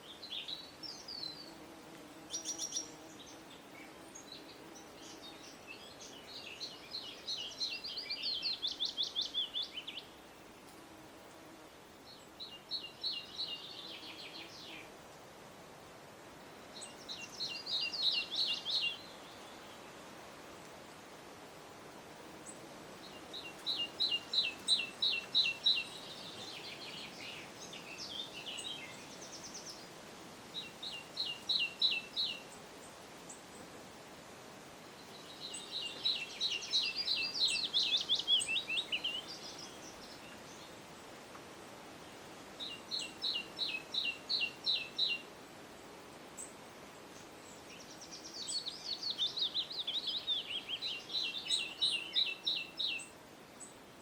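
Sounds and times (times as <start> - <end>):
songbird chirping and twittering: 0.0 - 15.0, 16.4 - 20.8, 22.4 - 33.8, 34.8 - 54.0
faint background hiss: 0.0 - 54.0.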